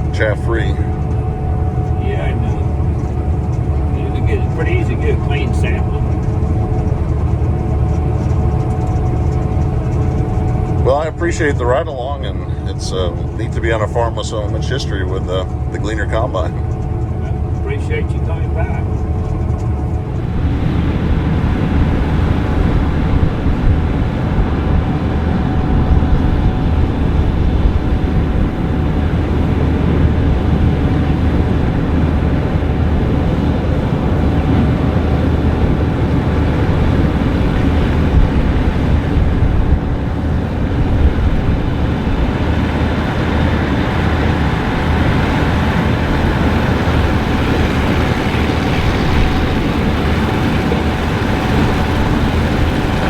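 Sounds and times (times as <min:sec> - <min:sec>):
combine harvester engine drone: 0:00.0 - 0:53.0
whining tones: 0:00.0 - 0:53.0.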